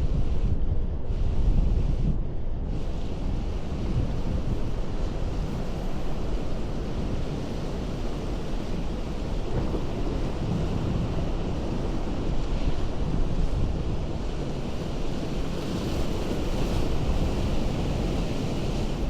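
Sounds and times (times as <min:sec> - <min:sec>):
ocean waves breaking on rocks: 0:02.9 - 0:19.0.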